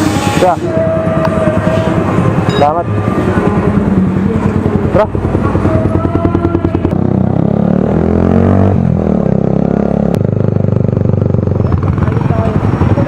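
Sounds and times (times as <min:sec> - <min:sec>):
motorcycle accelerating: 0:00.0 - 0:13.0.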